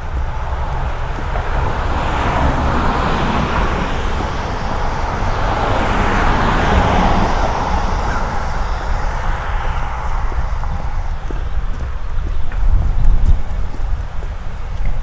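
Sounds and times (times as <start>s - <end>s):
car tyres hissing on wet road: 0.0s - 12.2s
steady low rumble: 0.0s - 15.0s.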